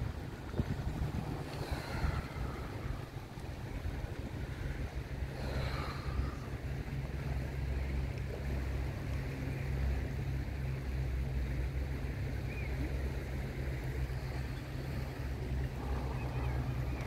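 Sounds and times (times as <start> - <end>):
river water rushing: 0.0 - 10.4, 12.2 - 17.0.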